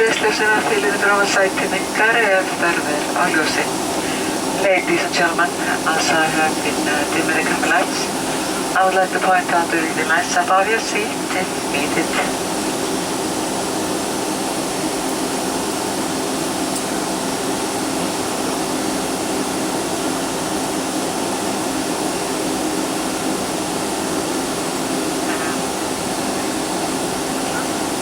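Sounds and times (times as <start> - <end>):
jet cabin engine drone: 0.0 - 28.0.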